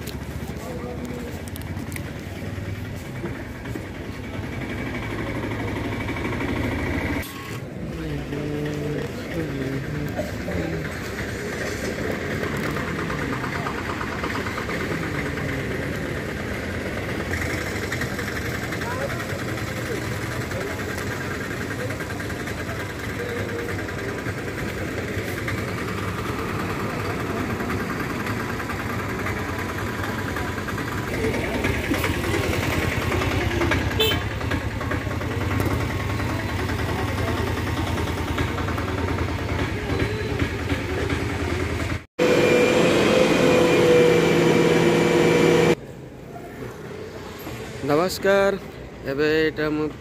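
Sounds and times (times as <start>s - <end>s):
bus engines idling: 0.0s - 50.0s.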